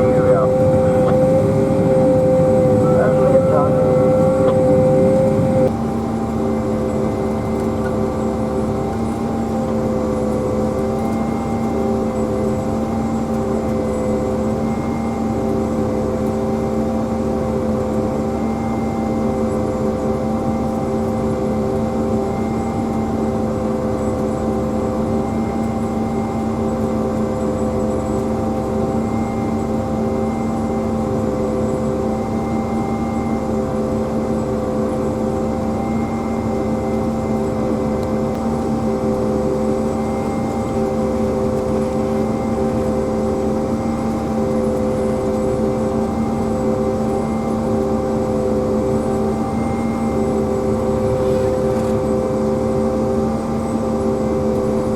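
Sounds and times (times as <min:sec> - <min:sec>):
harvester machine drone: 0:00.0 - 0:16.3, 0:19.6 - 0:54.9.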